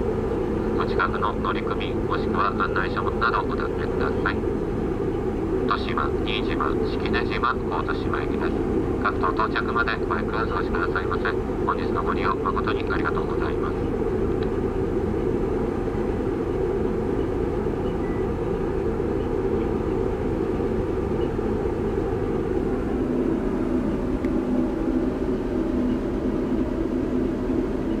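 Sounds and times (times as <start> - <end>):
ship diesel engines droning: 0.0 - 28.0.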